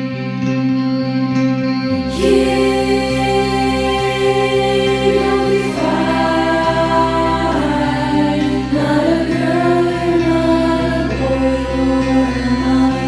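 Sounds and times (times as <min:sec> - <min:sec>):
slow music with sustained tones: 0:00.0 - 0:13.0
person singing: 0:02.0 - 0:13.0.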